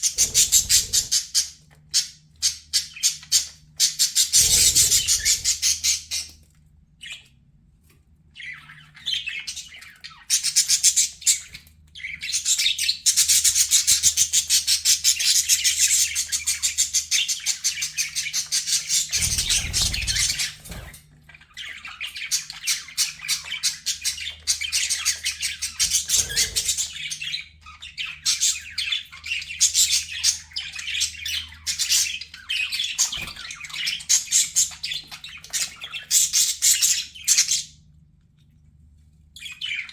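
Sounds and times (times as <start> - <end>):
budgerigars chattering: 0.0 - 6.3, 8.4 - 37.7.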